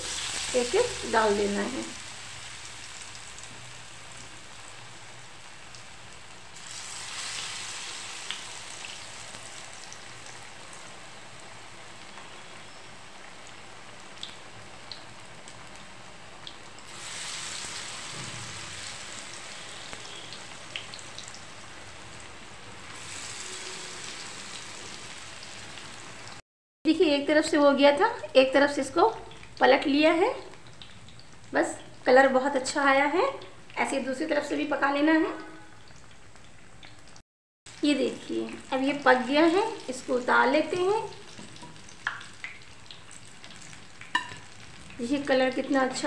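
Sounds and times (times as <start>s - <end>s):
food sizzling in hot oil: 0.0s - 26.4s, 27.0s - 46.0s.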